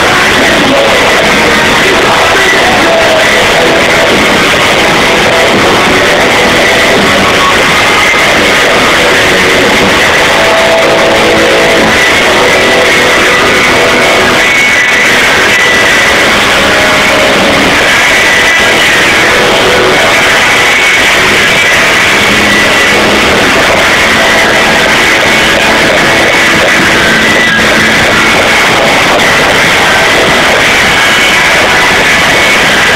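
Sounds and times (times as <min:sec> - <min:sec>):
drums: 0:00.0 - 0:32.9
electric guitars: 0:00.0 - 0:32.9.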